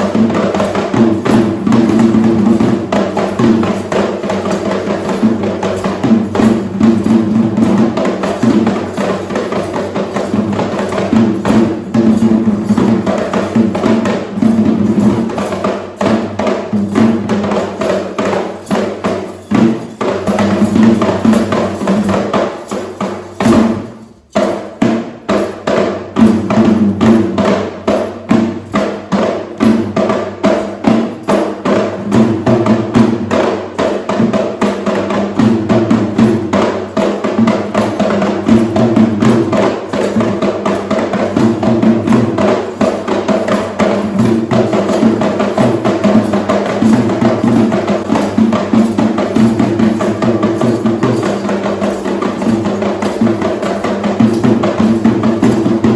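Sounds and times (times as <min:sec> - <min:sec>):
fast drumming: 0:00.0 - 0:55.9.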